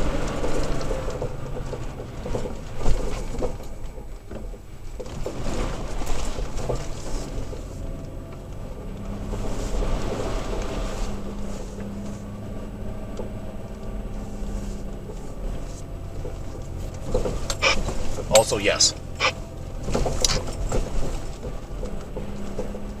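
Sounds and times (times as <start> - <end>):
truck engine hum: 0.0 - 23.0
truck rattling over bumps: 0.0 - 23.0.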